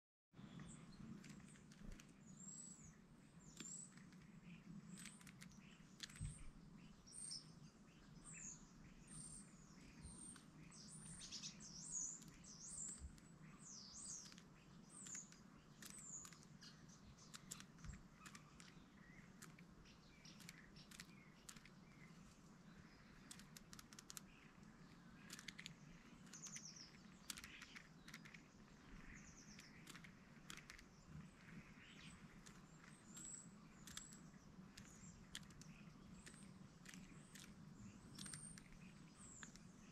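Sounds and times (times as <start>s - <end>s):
small birds chirping: 0.4s - 39.9s.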